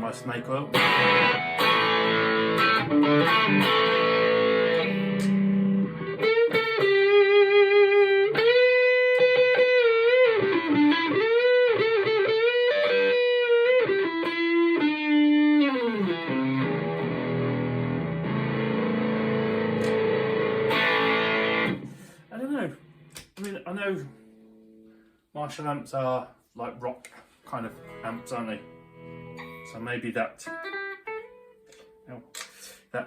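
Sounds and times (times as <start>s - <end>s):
electric guitar lead line: 0.0s - 23.2s, 27.7s - 29.9s, 30.5s - 32.0s
electric guitar chords: 0.0s - 23.3s, 27.8s - 29.9s, 30.5s - 32.1s.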